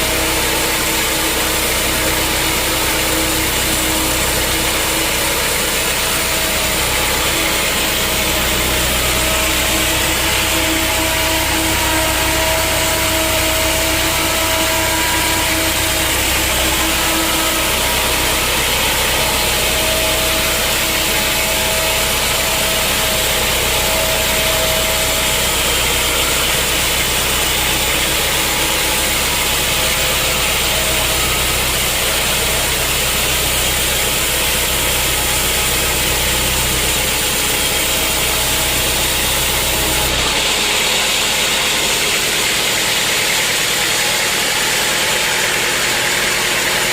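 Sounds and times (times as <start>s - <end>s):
sawmill machinery humming: 0.0s - 46.9s.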